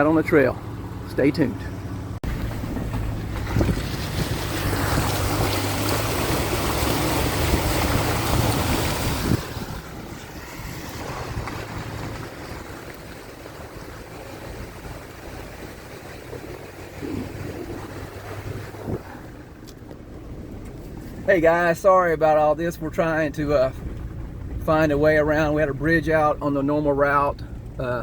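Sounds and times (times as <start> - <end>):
vehicle engine hum: 0.0 - 28.0.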